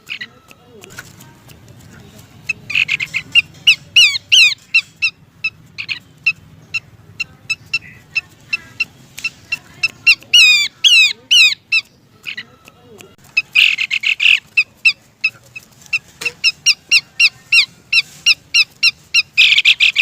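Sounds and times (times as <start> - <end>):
bird down-slurred chattering: 0.0 - 20.0.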